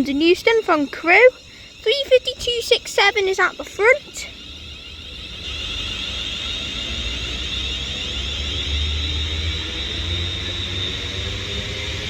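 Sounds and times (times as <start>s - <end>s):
electric train motors whining: 0.0s - 12.0s.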